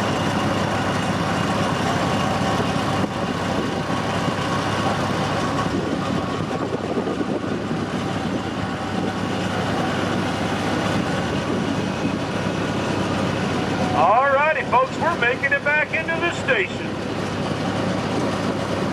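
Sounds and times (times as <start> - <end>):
train rumbling on rails: 0.0 - 18.9.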